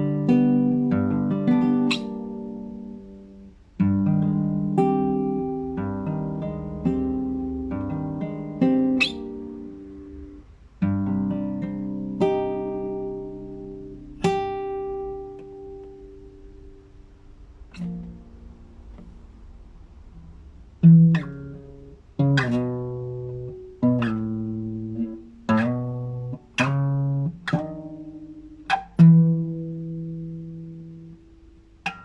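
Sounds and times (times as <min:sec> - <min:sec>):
classical guitar chords: 0:00.0 - 0:32.0.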